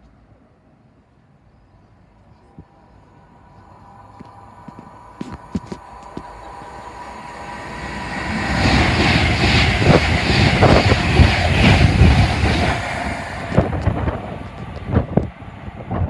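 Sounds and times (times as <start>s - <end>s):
electric train passing at speed: 0.0s - 16.0s.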